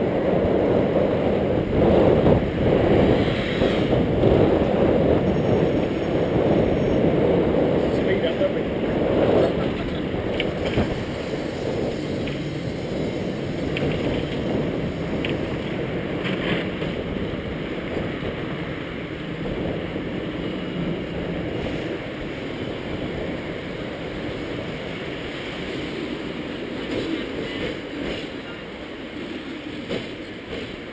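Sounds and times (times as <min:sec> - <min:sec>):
tram wheels and motor rumbling: 0:00.0 - 0:30.9.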